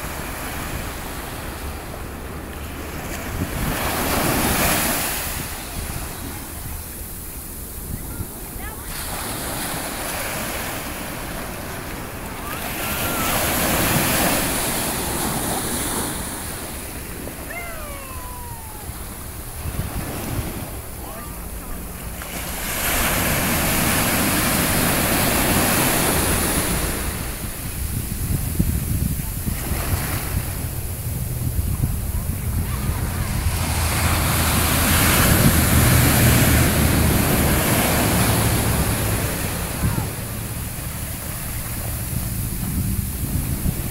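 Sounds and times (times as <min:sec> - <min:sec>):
wind on microphone: 0:00.0 - 0:21.9, 0:22.5 - 0:43.9
ocean waves breaking: 0:00.0 - 0:43.9
surf washing up beach: 0:00.0 - 0:43.9.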